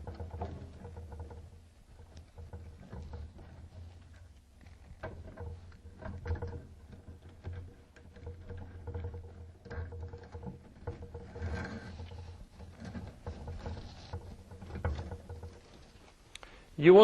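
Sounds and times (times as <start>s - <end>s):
wires rustling and clicking: 0.0s - 16.6s.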